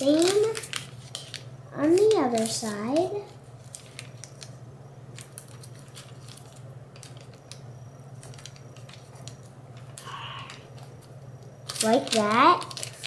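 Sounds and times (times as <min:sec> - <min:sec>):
paper folding and rustling: 0:00.0 - 0:04.5, 0:05.2 - 0:07.6, 0:08.2 - 0:10.0, 0:10.7 - 0:13.0
steady low hum: 0:00.0 - 0:13.0.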